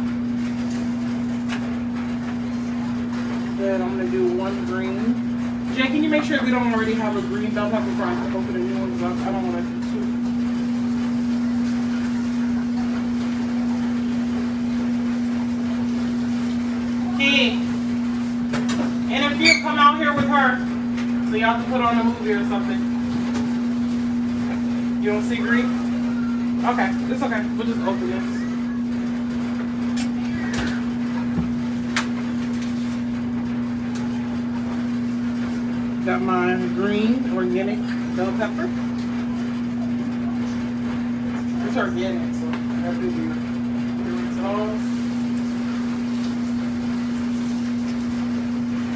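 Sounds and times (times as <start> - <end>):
machine hum: 0.0 - 48.9.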